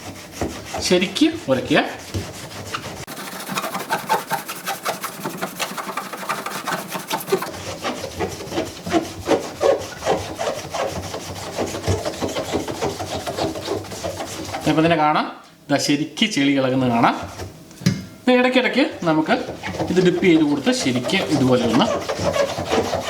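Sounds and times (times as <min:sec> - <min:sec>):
wet scrubbing: 0:00.0 - 0:14.8, 0:19.0 - 0:23.0.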